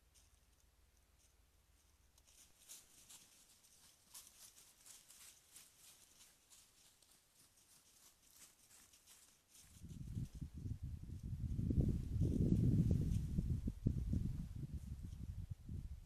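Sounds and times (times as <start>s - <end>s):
animal rustling through dry grass: 0.0s - 15.3s.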